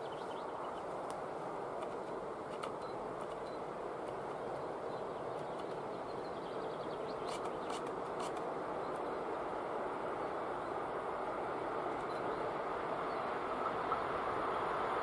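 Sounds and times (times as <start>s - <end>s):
distant electric train rumbling: 0.0s - 15.0s.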